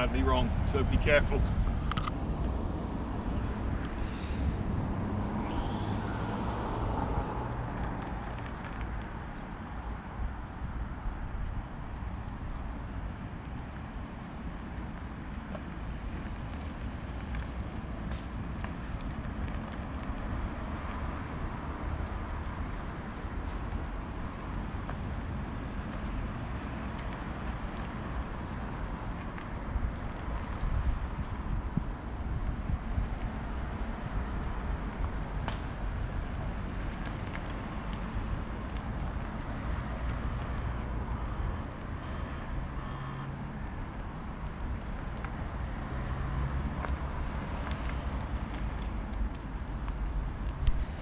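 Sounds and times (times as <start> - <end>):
wind rumbling on microphone: 0.0 - 51.0.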